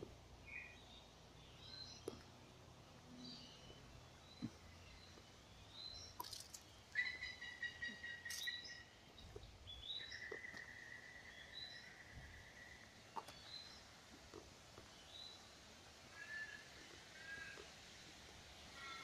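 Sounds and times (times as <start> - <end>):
birds chirping faintly: 0.4 - 19.0.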